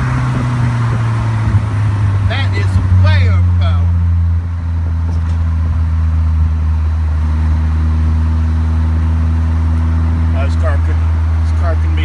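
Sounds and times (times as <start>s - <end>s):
car engine droning: 0.0s - 12.0s
road noise: 0.0s - 12.0s.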